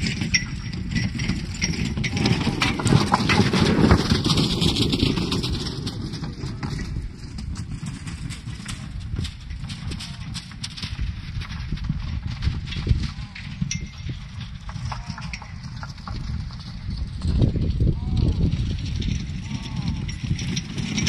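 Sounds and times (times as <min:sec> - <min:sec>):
hoofbeats on snow: 0:00.0 - 0:21.0
sled rumbling: 0:00.0 - 0:21.0.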